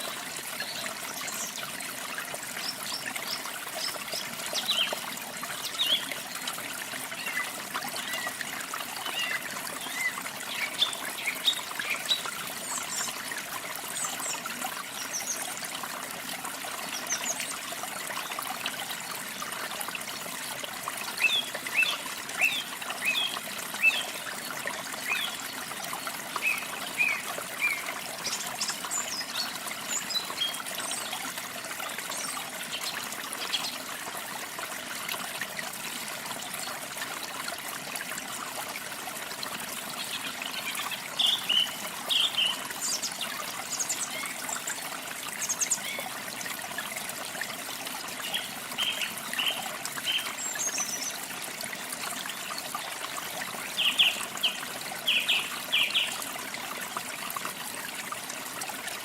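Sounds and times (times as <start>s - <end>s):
running water trickling: 0.0s - 59.0s.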